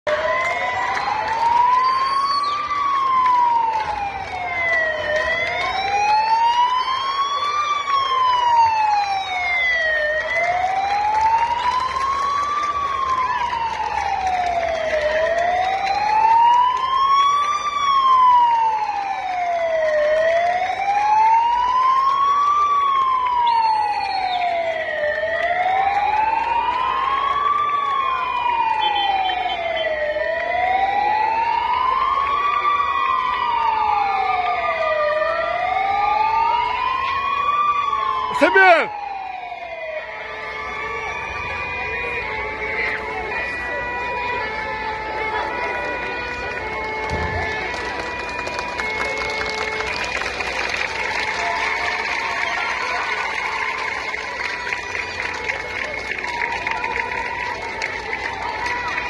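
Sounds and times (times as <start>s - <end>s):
ambulance siren wailing: 0.1s - 59.0s.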